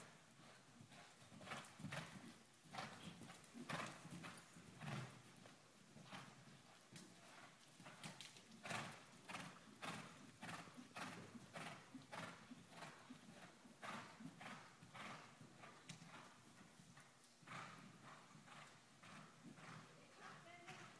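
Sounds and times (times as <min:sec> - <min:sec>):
horse hoofbeats on sand: 0:00.0 - 0:20.9.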